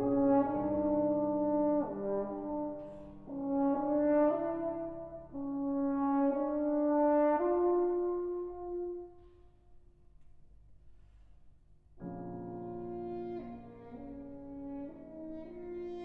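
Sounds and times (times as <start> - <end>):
soft piano accompaniment: 0.0 - 9.6, 11.9 - 16.0
french horn slow melody: 0.0 - 9.9, 12.0 - 16.0.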